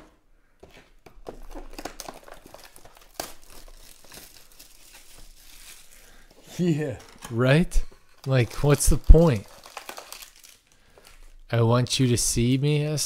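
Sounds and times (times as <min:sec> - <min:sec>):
plastic wrapper crinkling and tearing: 0:00.6 - 0:11.5.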